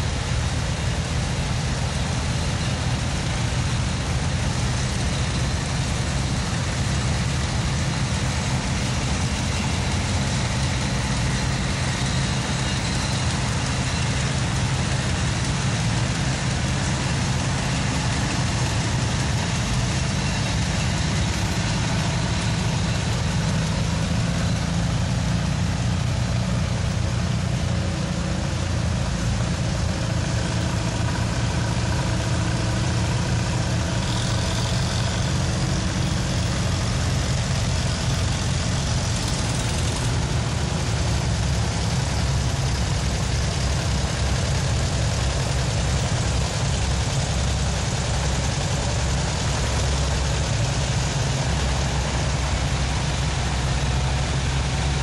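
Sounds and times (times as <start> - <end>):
tractor engines rumbling: 0.0 - 55.0.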